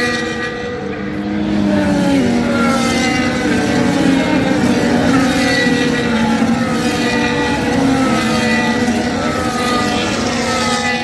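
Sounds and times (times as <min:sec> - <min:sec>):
racing car engines running hard: 0:00.0 - 0:11.0.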